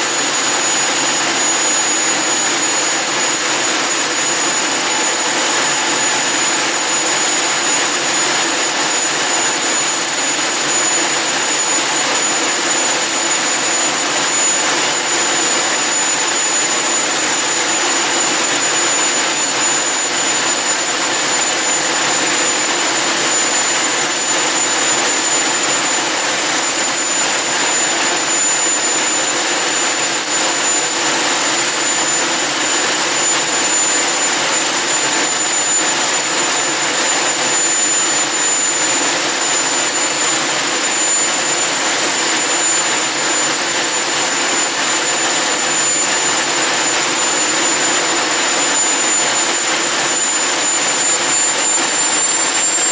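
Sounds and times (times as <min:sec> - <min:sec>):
high turbine whine: 0:00.0 - 0:52.9
jet engine roar: 0:00.0 - 0:52.9.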